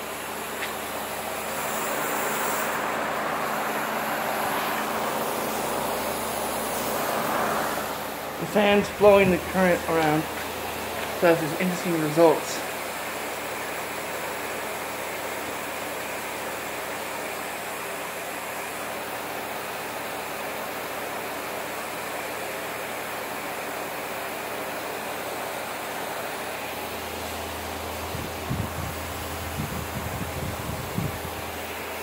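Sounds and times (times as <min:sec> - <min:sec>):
electric fan hiss: 0:00.0 - 0:32.0.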